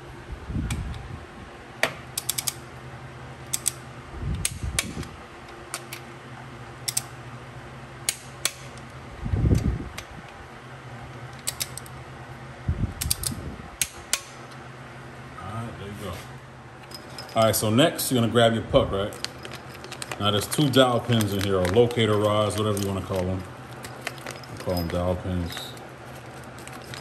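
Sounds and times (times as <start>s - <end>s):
fan hum: 0.0s - 27.0s.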